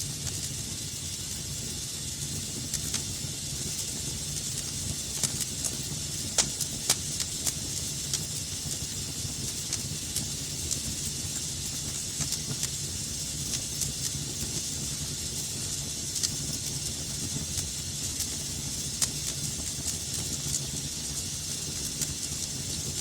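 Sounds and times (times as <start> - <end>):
fire crackles and pops: 0.0 - 23.0
wood fire burning: 0.0 - 23.0.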